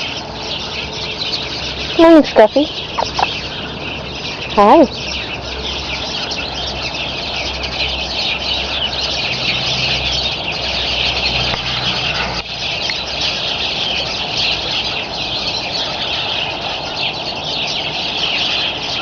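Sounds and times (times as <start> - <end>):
low steady hum: 0.0 - 18.8
flock of small birds chirping: 0.0 - 19.0.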